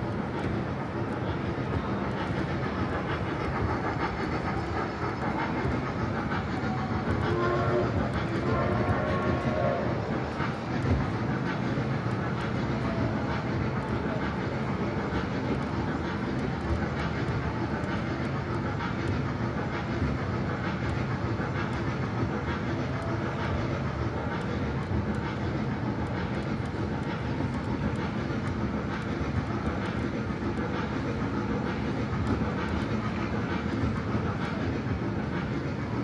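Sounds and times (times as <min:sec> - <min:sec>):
ride-on train rumbling: 0:00.0 - 0:36.0.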